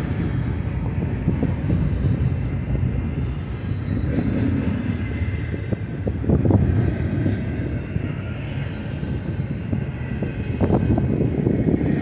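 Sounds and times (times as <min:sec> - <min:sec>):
steel train wheels rumbling on rail: 0:00.0 - 0:12.0.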